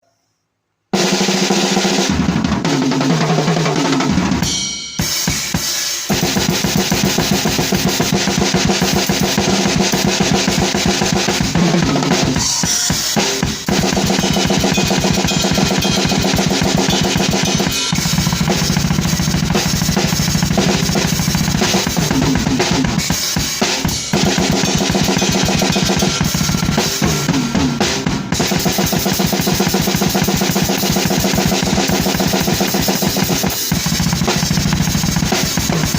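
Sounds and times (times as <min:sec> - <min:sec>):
drum kit blast beats: 0:00.9 - 0:35.9.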